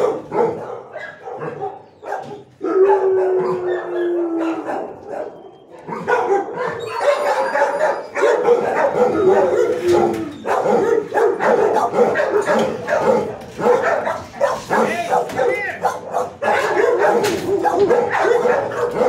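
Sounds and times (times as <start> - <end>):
dogs barking and howling: 0.0 - 19.0.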